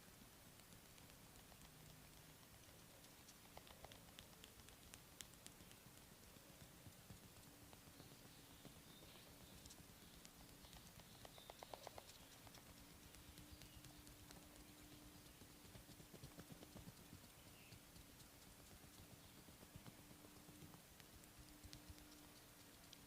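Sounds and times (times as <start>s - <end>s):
faint steady hum: 0.0s - 23.0s
hands patting and tapping body: 3.0s - 23.0s.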